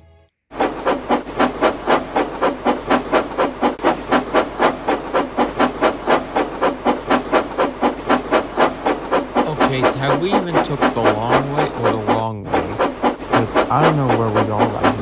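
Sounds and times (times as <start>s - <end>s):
steam locomotive chuffing: 0.5s - 15.0s.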